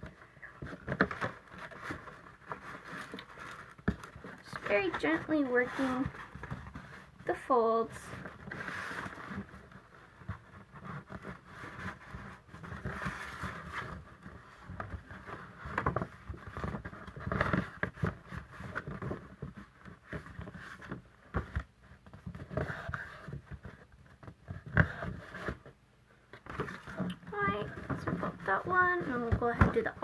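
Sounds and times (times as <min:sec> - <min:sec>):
cardstock rustling and scraping: 0:00.0 - 0:30.0.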